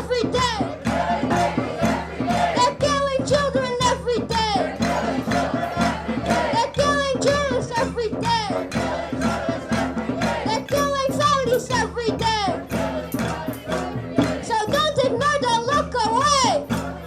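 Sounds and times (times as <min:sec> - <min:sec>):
music with singing voices: 0:00.0 - 0:17.0.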